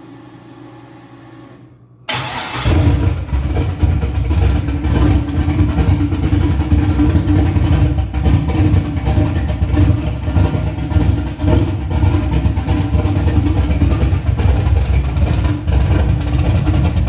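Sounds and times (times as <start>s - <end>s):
car engine running loudly: 2.5s - 17.0s.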